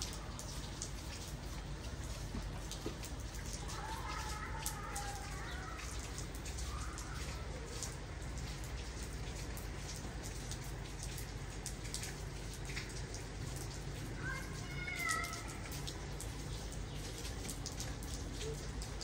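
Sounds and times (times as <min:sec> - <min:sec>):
wet snow and drips pattering: 0:00.0 - 0:19.0.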